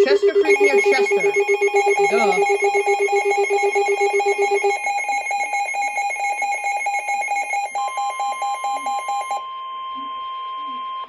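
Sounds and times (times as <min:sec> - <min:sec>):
rapid electronic alert beeping: 0:00.0 - 0:09.4
steady warning alarm tone: 0:00.0 - 0:09.4.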